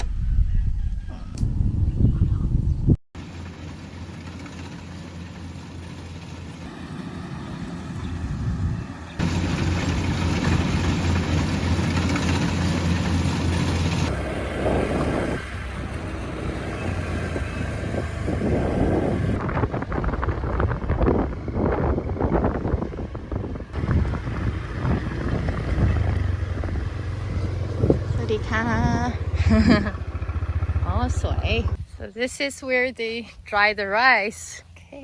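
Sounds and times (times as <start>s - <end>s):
engine running with low hum: 0.8s - 33.6s.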